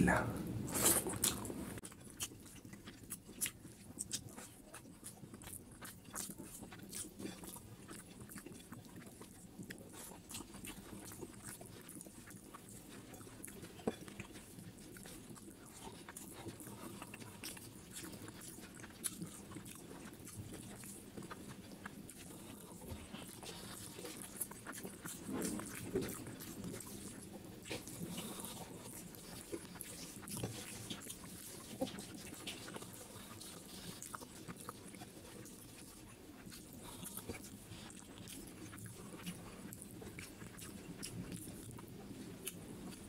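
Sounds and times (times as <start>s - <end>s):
chewing with wet mouth clicks: 0.1s - 43.0s.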